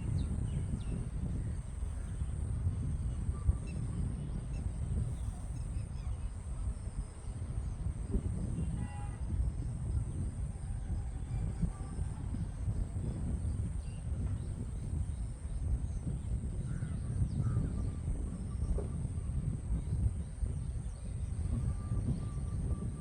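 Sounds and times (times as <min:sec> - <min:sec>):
faint birds: 0:00.0 - 0:23.0
wind buffeting microphone: 0:00.0 - 0:23.0.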